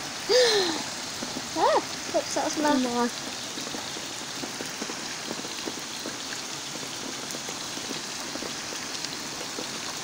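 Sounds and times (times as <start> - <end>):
raindrops ticking: 0.0 - 10.0
steady rain: 0.0 - 10.0.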